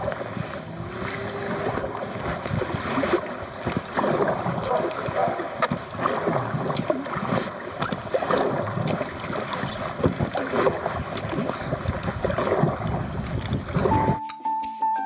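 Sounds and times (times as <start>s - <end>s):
paddle splashing water: 0.0s - 14.2s
water lapping against kayak hull: 0.0s - 14.2s
wind noise: 0.0s - 14.2s.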